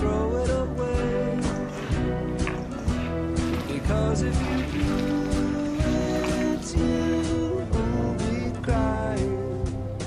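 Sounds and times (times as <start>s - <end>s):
person singing: 0.0s - 2.1s, 3.5s - 9.8s
song with steady beat: 0.0s - 10.0s.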